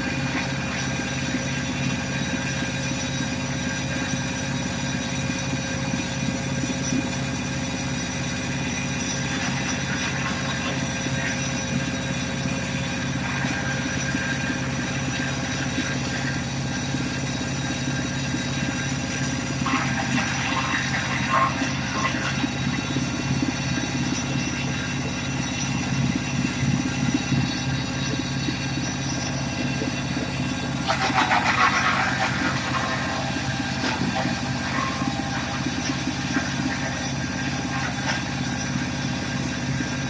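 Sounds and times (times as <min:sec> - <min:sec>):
wood chipper diesel engine: 0:00.0 - 0:40.0.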